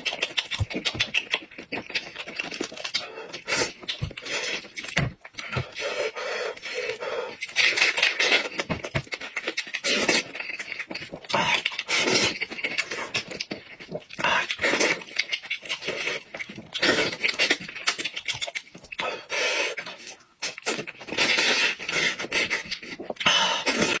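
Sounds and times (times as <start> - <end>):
person chewing and lip-smacking: 0.0 - 24.0.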